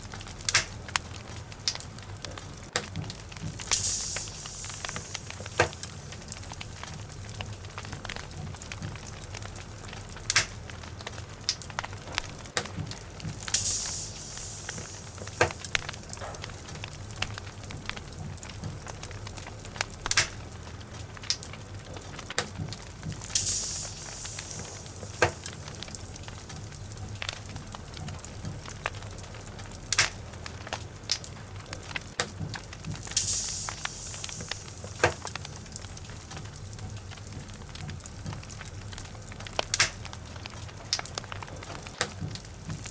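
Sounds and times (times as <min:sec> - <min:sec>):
logs crackling in a fireplace: 0:00.0 - 0:42.9.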